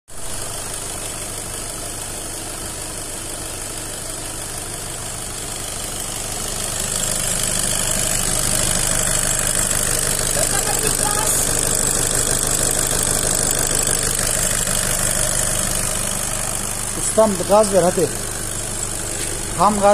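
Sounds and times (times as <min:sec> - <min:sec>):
diesel engine idling: 0:00.2 - 0:19.9.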